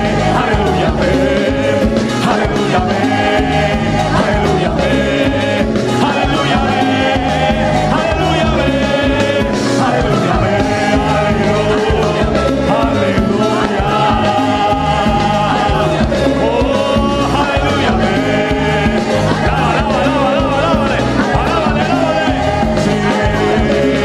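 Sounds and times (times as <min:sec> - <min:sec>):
band with drum kit playing: 0:00.0 - 0:24.0
voices singing melody: 0:00.0 - 0:24.0.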